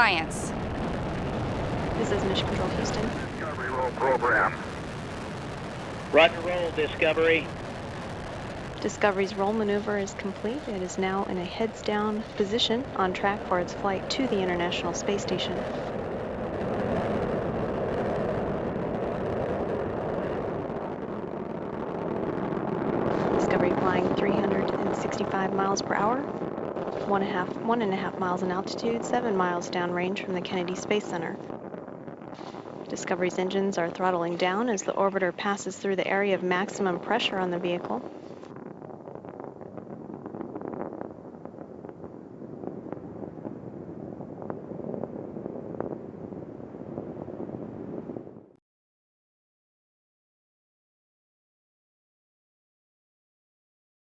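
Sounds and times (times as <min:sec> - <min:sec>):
deep rocket engine rumble: 0:00.0 - 0:48.6.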